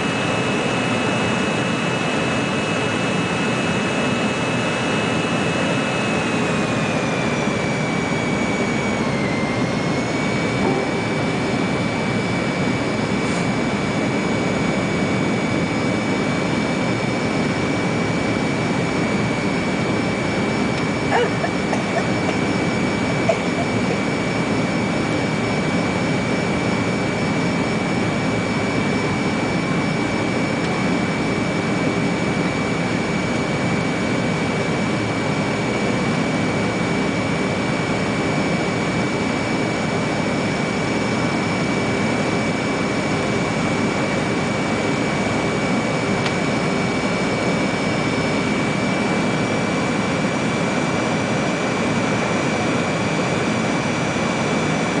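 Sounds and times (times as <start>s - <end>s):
aircraft cabin roar with whine: 0.0s - 55.0s.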